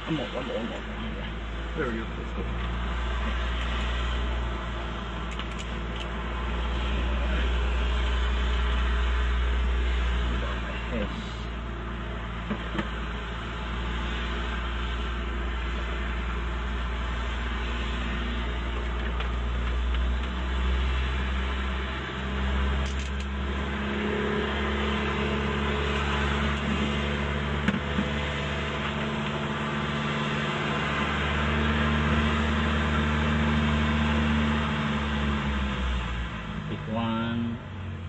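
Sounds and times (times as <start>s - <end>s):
engine drone: 0.0s - 38.0s.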